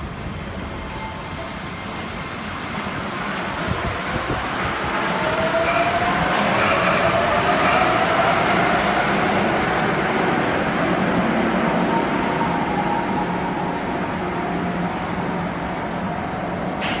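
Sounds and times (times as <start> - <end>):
train pulling away: 0.1 - 17.0.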